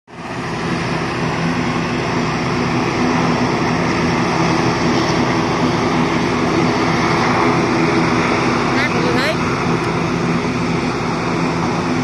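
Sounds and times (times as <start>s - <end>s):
turboprop engine hum and whine: 0.0s - 12.0s.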